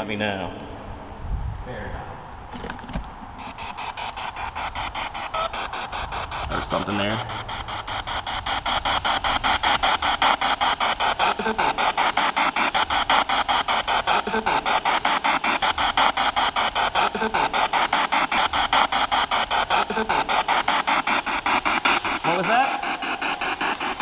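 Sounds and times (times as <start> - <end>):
faint radio broadcast fragments: 2.5 - 24.0
pulsing radio static: 2.5 - 24.0.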